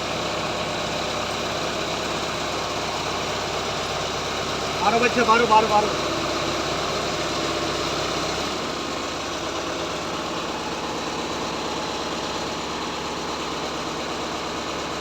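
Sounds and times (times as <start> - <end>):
drilling machine engine running: 0.0 - 15.0.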